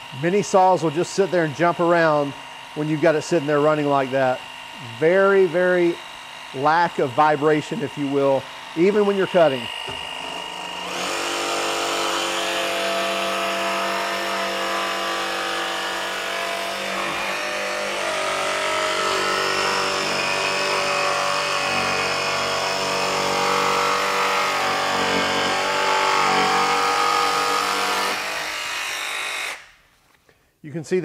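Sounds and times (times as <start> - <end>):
jigsaw cutting through plywood: 0.0 - 29.7.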